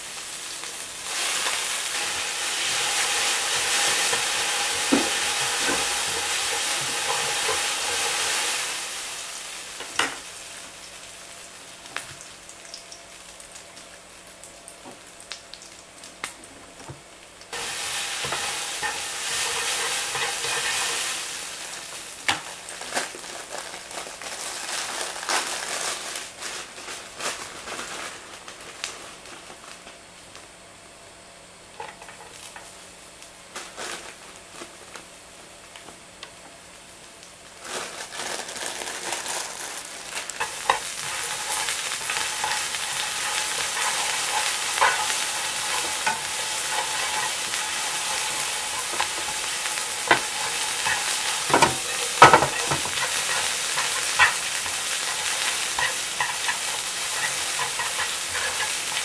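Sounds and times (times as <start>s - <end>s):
noodles and pork sizzling in pan: 0.0s - 59.0s.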